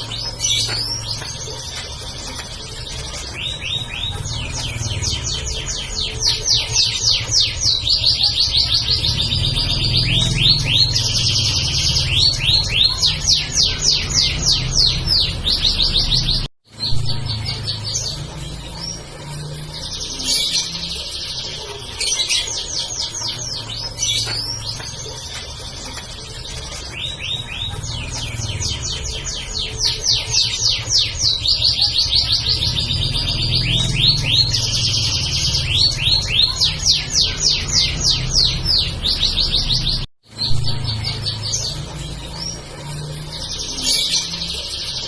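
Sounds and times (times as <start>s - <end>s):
canary singing: 0.0s - 45.0s.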